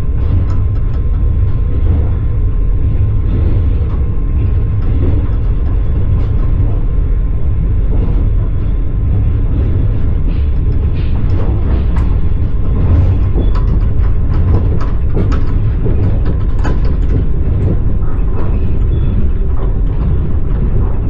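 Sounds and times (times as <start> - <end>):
train carriage rumbling on rails: 0.0 - 21.0.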